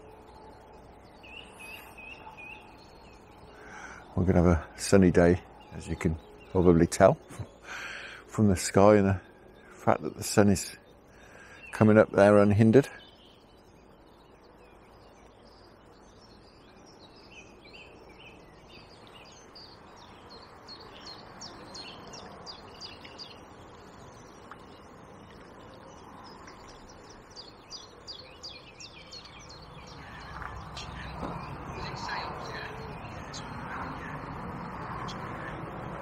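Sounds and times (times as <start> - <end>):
birds chirping: 0.0 - 36.0
faint steady background noise: 0.0 - 36.0.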